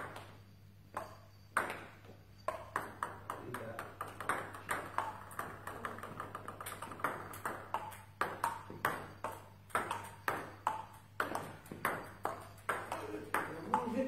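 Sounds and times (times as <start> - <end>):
low steady hum: 0.0 - 14.0
table tennis ball clicking: 0.9 - 14.0.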